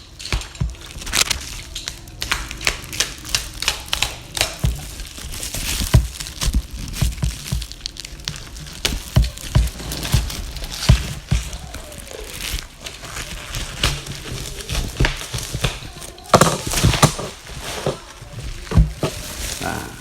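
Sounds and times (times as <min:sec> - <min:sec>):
packaging crinkling and tearing: 0:00.0 - 0:20.0.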